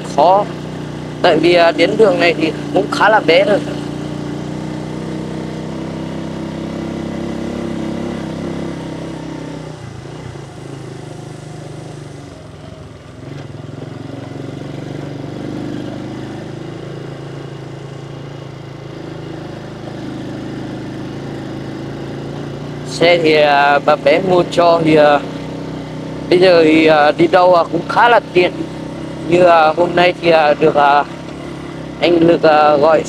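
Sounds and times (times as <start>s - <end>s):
small motorcycle engine running: 0.0s - 33.0s.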